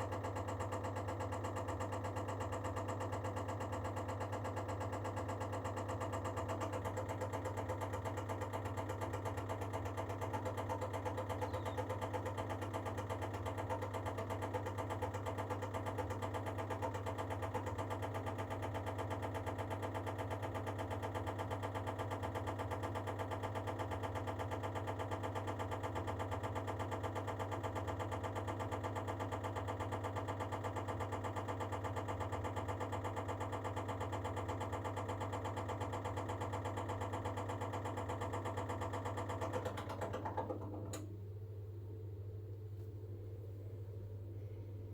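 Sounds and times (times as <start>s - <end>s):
boiler humming: 0.0s - 44.9s.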